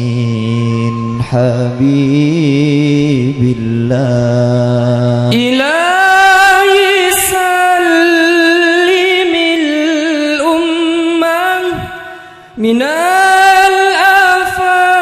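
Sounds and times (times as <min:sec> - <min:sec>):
person singing wordless melody: 0:00.0 - 0:15.0.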